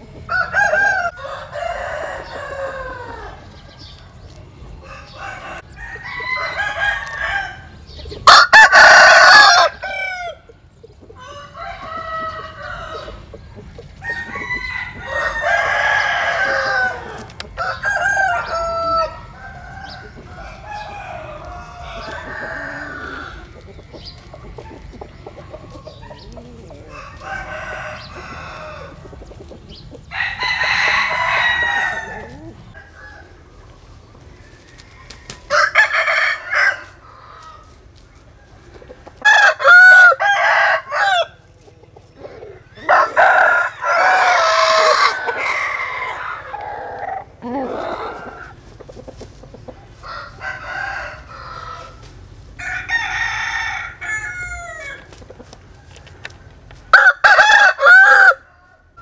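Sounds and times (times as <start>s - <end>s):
chickens clucking: 0.0s - 59.0s
roosters crowing: 0.0s - 59.0s.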